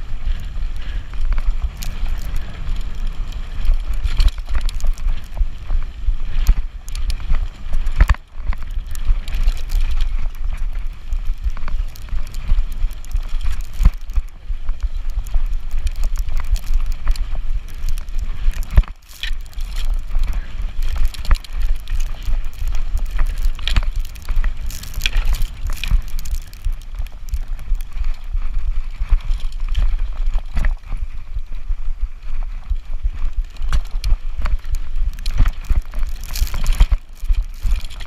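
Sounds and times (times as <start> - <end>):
bike rattling over bumps: 0.0 - 38.0
wind and riding noise: 0.0 - 38.0.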